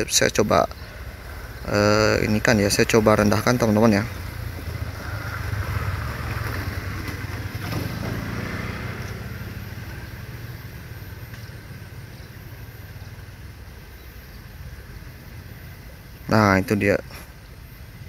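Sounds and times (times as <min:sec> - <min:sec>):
road traffic hum: 0:00.0 - 0:18.0
vehicle passing: 0:00.0 - 0:18.0.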